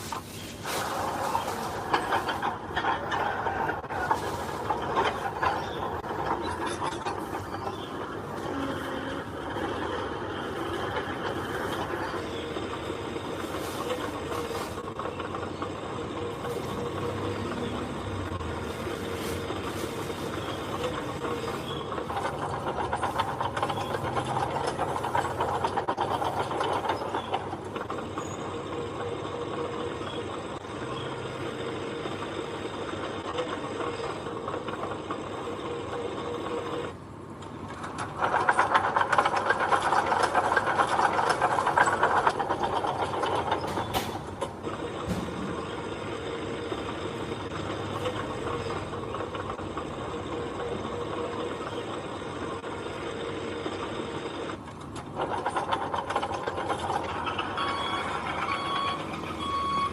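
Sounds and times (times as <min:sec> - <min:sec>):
earth-moving machine clattering: 0:00.0 - 0:59.9.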